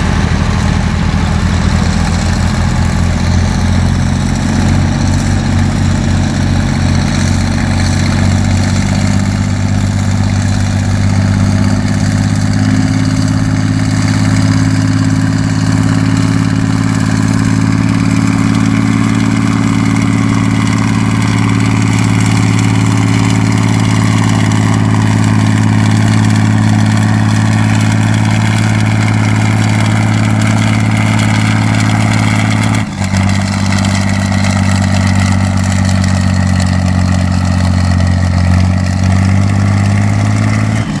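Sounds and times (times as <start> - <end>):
tractor engine running under load: 0.0 - 41.0.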